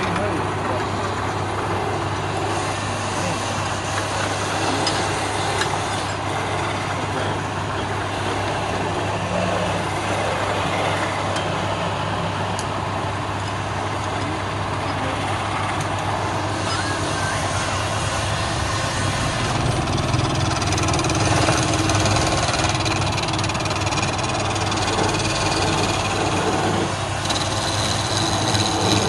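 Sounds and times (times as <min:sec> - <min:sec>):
chisel cutting spinning wood: 0:00.0 - 0:29.0
wood lathe motor hum: 0:00.0 - 0:29.0.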